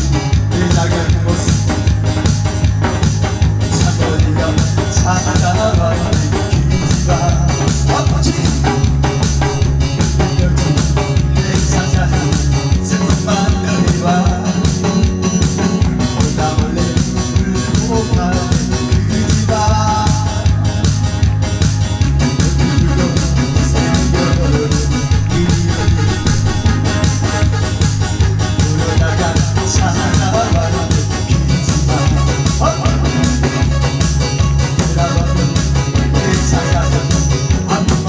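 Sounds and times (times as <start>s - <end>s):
upbeat music with drums and bass: 0.0s - 38.0s.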